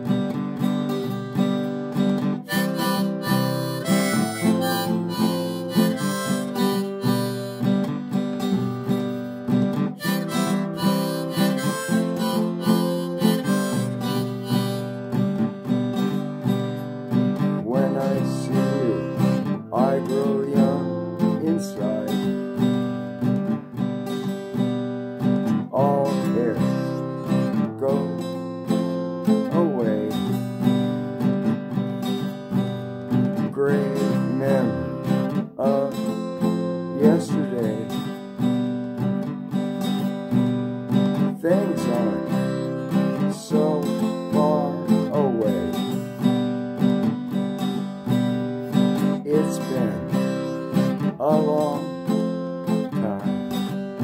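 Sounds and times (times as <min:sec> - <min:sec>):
strummed acoustic guitar: 0:00.0 - 0:54.0
harmonica melody: 0:00.6 - 0:33.0, 0:33.7 - 0:54.0.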